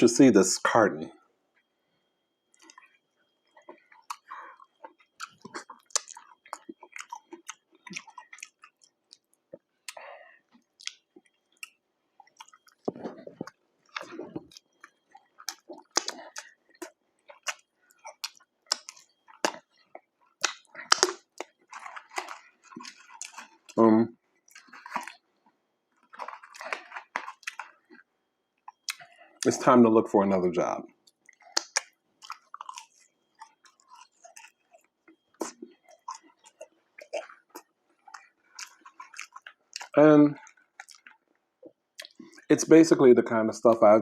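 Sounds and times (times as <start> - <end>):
person chewing food: 1.5 - 29.7, 30.9 - 42.5.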